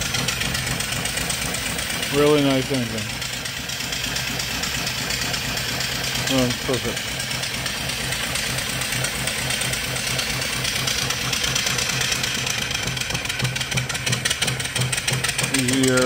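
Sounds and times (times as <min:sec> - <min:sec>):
steam engine exhaust hissing: 0:00.0 - 0:16.0.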